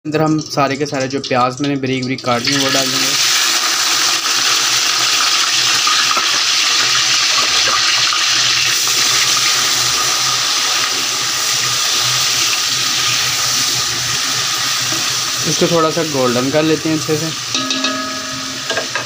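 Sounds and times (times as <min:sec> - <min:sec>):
onions sizzling in hot oil: 0:00.4 - 0:19.0.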